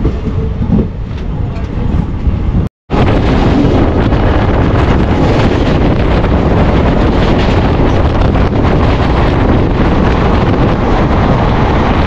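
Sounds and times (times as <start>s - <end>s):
moving train running noise: 0.0s - 12.0s
wind buffeting microphone: 0.0s - 12.0s.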